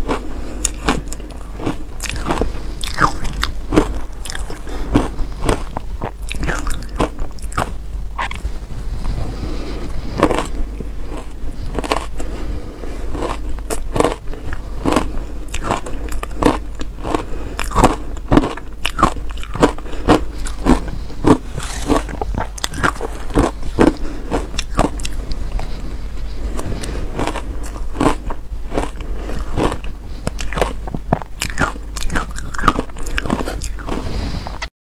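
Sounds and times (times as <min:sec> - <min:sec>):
crunching shaved ice: 0:00.0 - 0:08.5, 0:09.4 - 0:34.7.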